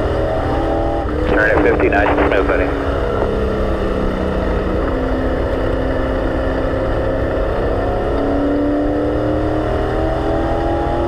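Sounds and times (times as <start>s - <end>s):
race car engine running hard: 0.0s - 11.0s
road and wind noise: 0.0s - 11.0s.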